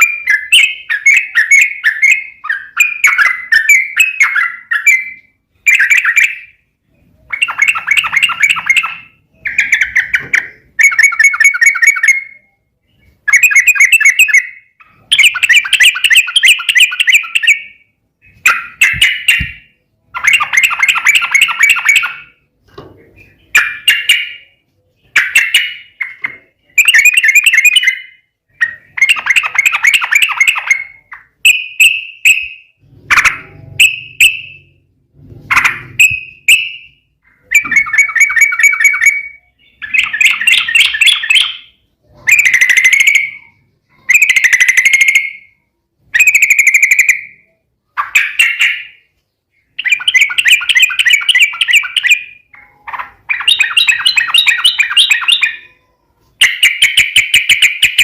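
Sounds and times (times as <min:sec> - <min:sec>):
bird rapid chattering song: 0:00.0 - 0:34.8, 0:35.4 - 0:58.0.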